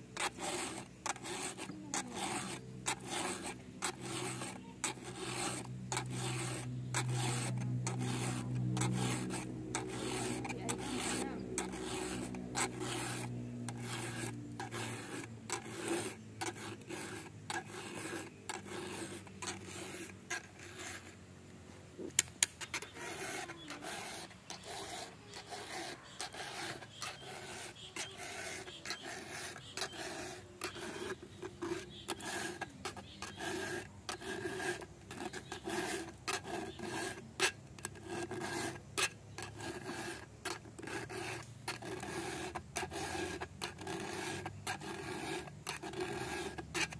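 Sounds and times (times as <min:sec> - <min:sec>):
file rasping on chainsaw chain: 0:00.2 - 0:21.2, 0:22.2 - 0:46.9.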